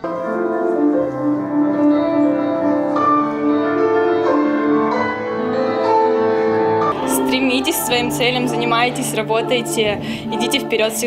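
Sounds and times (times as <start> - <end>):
slow instrumental melody: 0.0 - 11.0.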